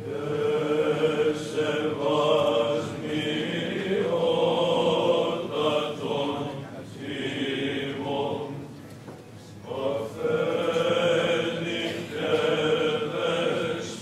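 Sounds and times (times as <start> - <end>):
choir chanting over drone: 0.0 - 8.7, 9.6 - 14.0.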